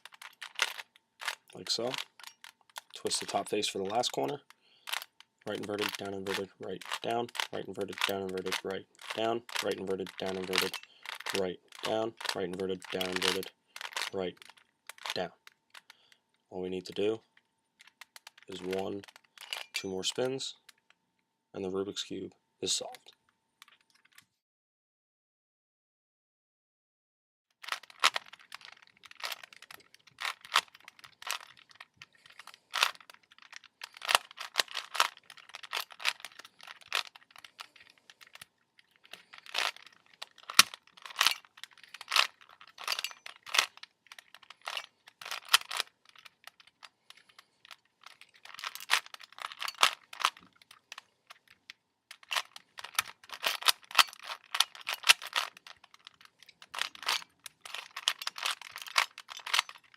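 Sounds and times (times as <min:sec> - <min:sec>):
puzzle cube clicking: 0:00.0 - 0:16.0, 0:17.8 - 0:19.8, 0:27.6 - 0:59.9.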